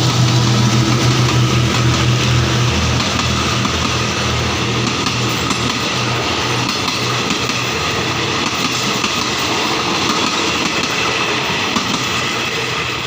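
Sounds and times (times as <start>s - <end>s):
train wheels clattering over rail joints: 0.0s - 13.0s.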